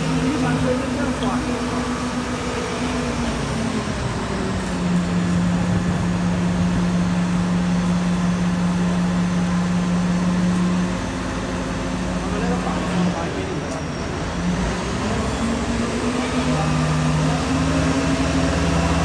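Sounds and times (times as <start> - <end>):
heavy machinery rumbling: 0.0 - 19.0.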